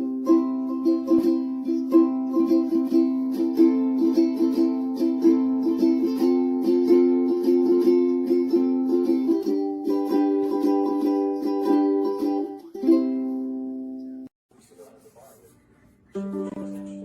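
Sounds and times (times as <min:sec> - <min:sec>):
ukulele strumming: 0:00.0 - 0:14.2, 0:16.1 - 0:17.0.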